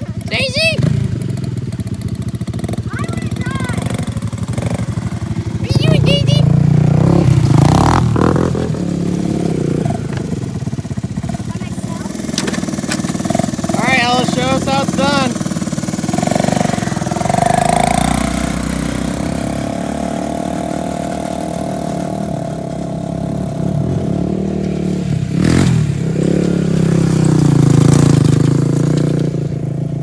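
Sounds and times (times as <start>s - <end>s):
small engine revving: 0.0s - 30.0s.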